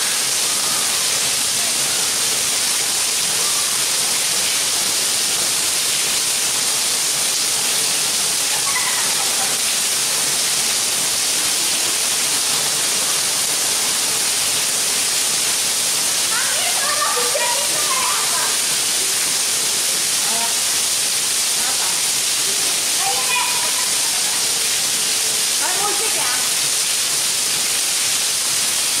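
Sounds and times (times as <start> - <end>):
heavy rain on paving: 0.0 - 29.0.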